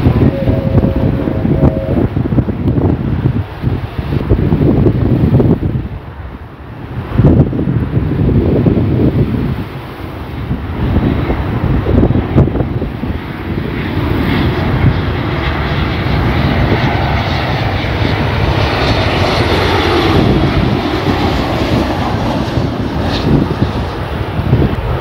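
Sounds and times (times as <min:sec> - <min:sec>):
jet airliner flying low overhead: 0:00.0 - 0:25.0.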